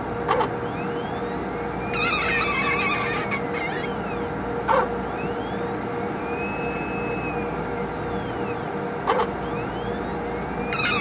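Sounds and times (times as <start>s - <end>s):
squeaks gliding in pitch: 0.3s - 11.0s
squeal: 0.7s - 11.0s.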